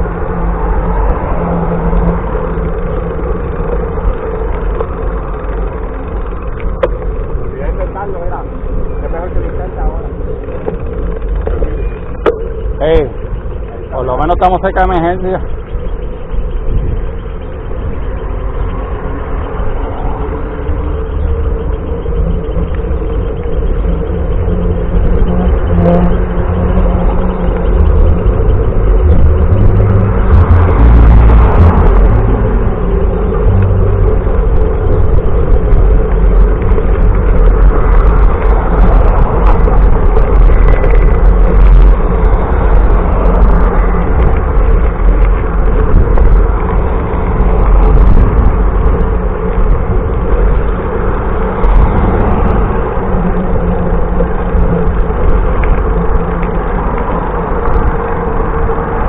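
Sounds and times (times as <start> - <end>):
bicycle road noise: 0.0 - 59.0
wind buffeting: 0.0 - 59.0.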